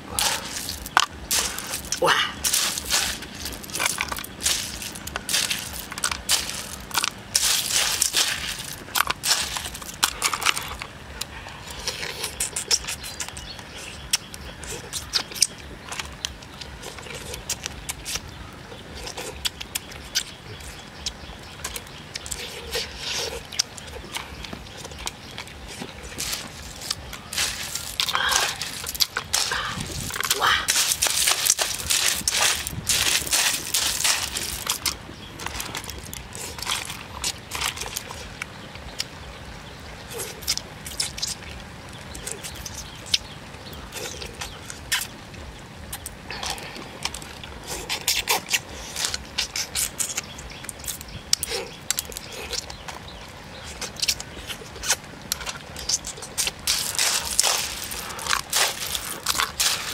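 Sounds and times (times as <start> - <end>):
wet chewing and slurping: 0.0 - 59.9.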